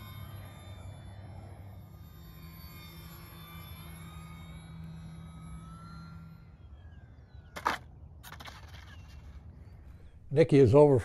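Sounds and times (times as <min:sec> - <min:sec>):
model airplane motor whining: 0:00.0 - 0:10.2.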